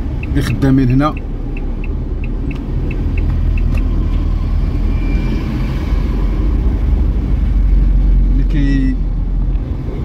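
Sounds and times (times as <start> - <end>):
car driving heard from cabin: 0.0 - 10.0.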